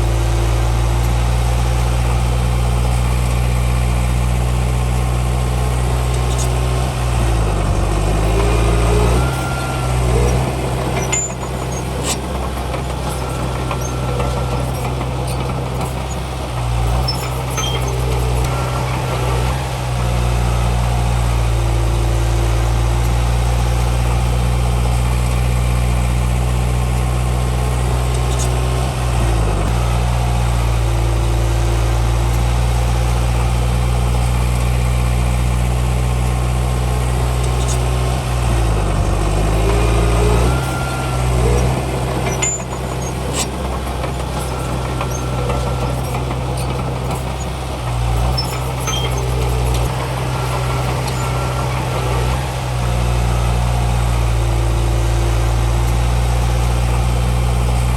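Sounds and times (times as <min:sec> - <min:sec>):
heavy diesel engines running: 0:00.0 - 0:57.9.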